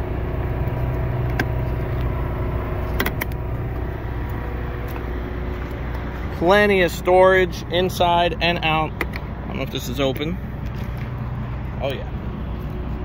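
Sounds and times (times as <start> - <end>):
generator humming: 0.0 - 13.0.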